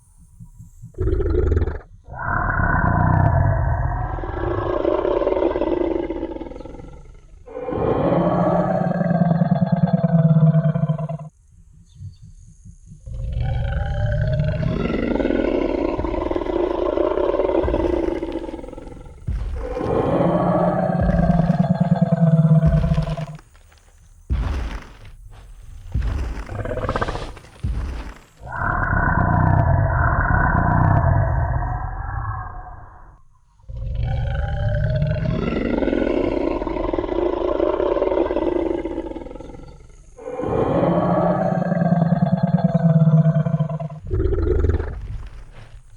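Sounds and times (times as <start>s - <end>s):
dinosaur roar: 1.0s - 11.3s, 11.9s - 23.4s, 26.0s - 45.7s.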